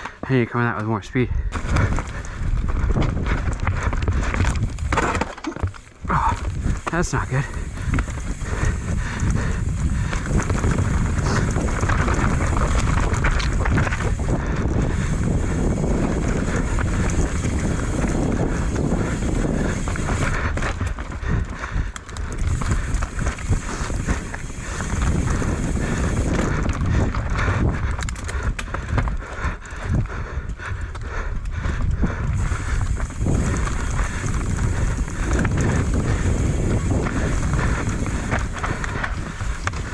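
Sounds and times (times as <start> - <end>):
bike tyres on dirt and rock: 0.0 - 39.9
wind rumble on microphone: 1.2 - 39.9
bike chain and frame rattling: 1.5 - 39.9.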